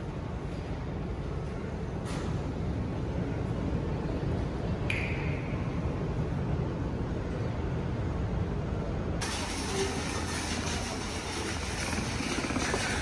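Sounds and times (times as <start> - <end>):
city street traffic: 0.0 - 13.0
underground railway station rumble: 0.0 - 13.0.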